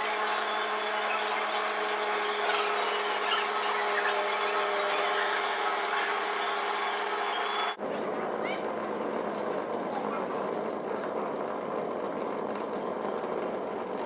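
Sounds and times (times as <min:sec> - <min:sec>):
electric motor hum and whirr: 0:00.0 - 0:14.0.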